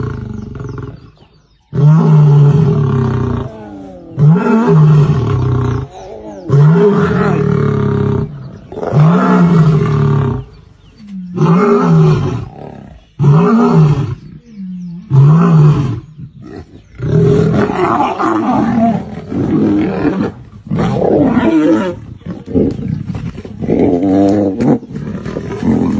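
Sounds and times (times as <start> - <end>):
lion growling: 0.0 - 25.9
lion roaring: 1.7 - 25.9.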